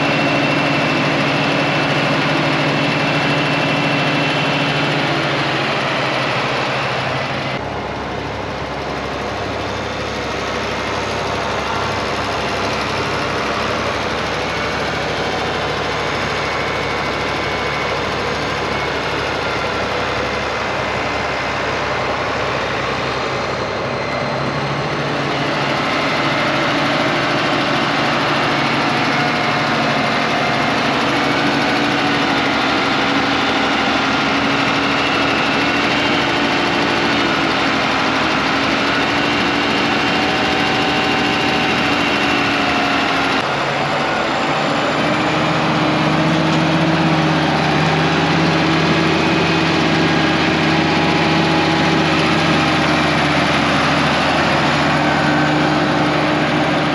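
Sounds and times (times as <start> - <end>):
big diesel engine running: 0.0 - 56.9.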